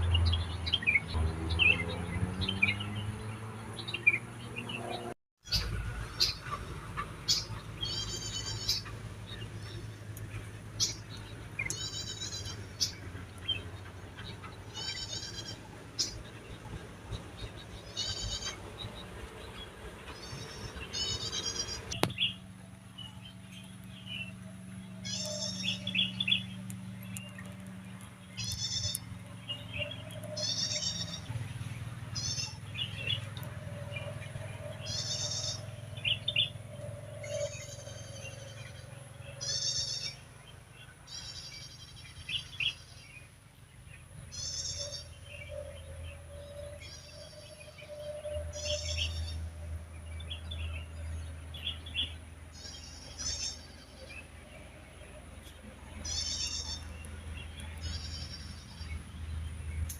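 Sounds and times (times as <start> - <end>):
birds trilling calls: 0.0 - 59.2
bird chirps: 7.2 - 59.4.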